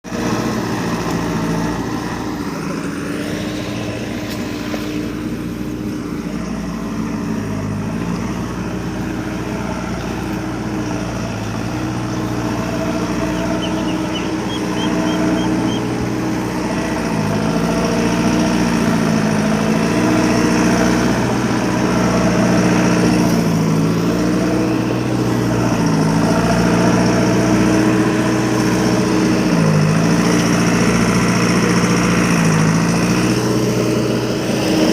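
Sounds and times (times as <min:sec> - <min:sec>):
diesel engine under load: 0:00.0 - 0:34.9.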